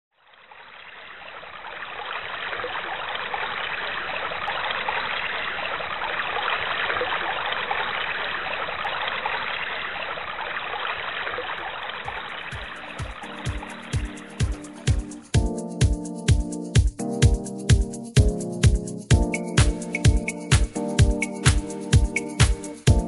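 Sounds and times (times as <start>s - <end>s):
running water: 0.2s - 23.0s.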